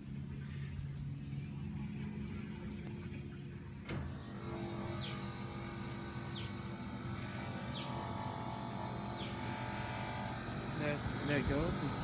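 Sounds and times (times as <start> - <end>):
air conditioner unit humming: 0.0 - 12.0.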